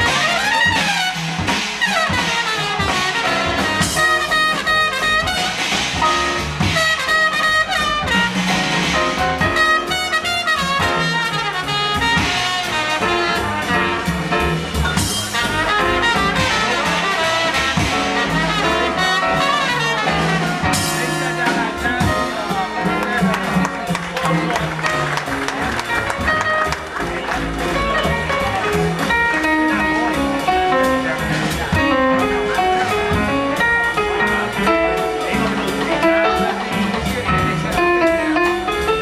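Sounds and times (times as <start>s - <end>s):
acoustic bass: 0.0s - 39.0s
drum kit with cymbals: 0.0s - 39.0s
horn: 0.0s - 39.0s
piano: 0.0s - 39.0s.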